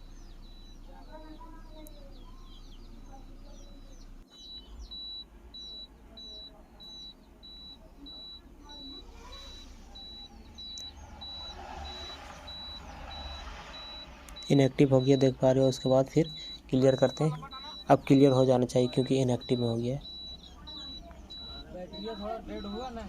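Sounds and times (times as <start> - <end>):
birds chirping faintly: 0.0 - 23.0
diesel truck engine idling: 0.0 - 23.0
high electronic beeps: 0.0 - 23.0.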